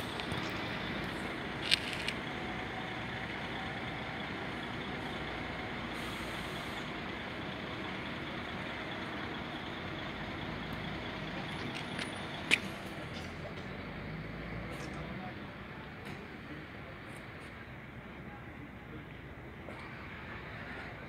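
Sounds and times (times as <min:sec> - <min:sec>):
buses idling: 0:00.0 - 0:21.0
road traffic rumble: 0:00.0 - 0:21.0.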